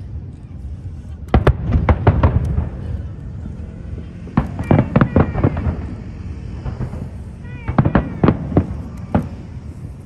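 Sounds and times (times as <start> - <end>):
fireworks rumble: 0.0 - 10.0
fireworks bangs and crackles: 0.9 - 10.0.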